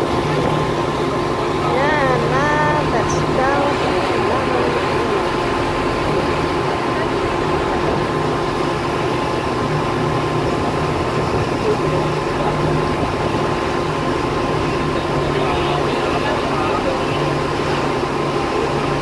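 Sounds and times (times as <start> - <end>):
boat engine humming: 0.0 - 19.0
wind and water rushing: 0.0 - 19.0.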